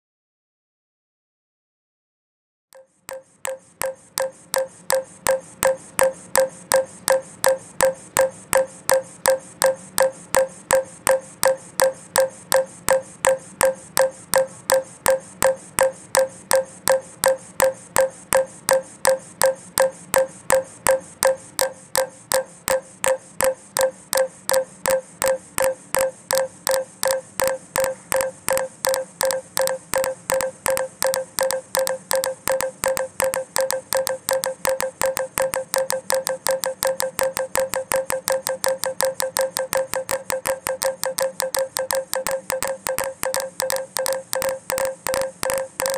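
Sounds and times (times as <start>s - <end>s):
steady looped clicks: 2.8s - 45.9s
held mid-pitched tone: 3.1s - 45.9s.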